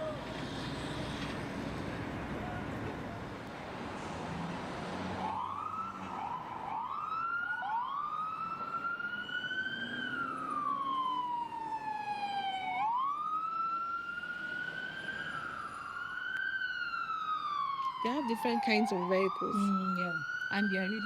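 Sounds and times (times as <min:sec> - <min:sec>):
emergency vehicle siren: 0:00.0 - 0:21.0.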